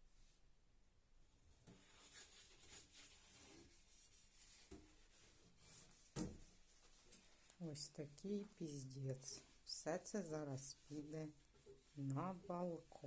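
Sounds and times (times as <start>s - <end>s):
rustling of things handled: 1.6s - 13.0s.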